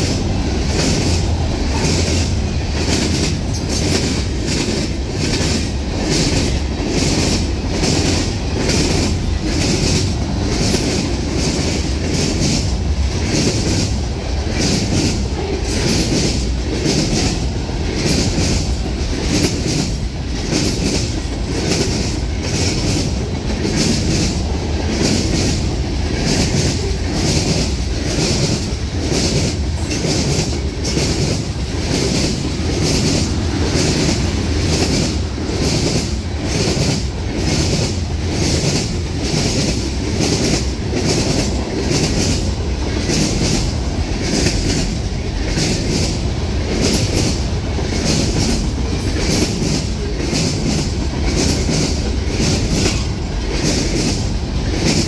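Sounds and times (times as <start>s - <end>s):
train wheels rumbling on rail: 0.0s - 55.0s
wheels clickety-clack on rail joints: 0.0s - 55.0s.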